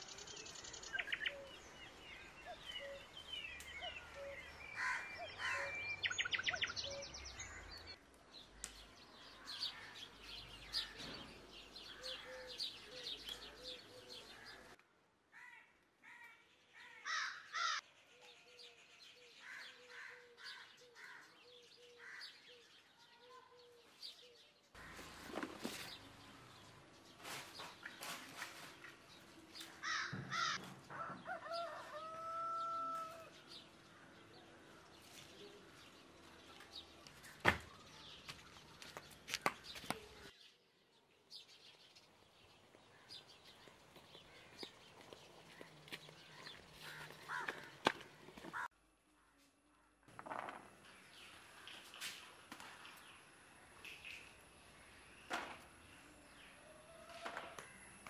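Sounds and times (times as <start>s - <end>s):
birds chirping and calling: 0.0s - 14.8s, 16.2s - 40.6s, 41.3s - 48.7s.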